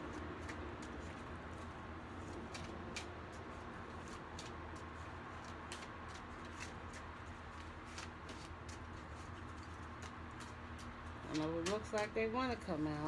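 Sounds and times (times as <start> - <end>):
cards being shuffled: 0.0 - 12.2.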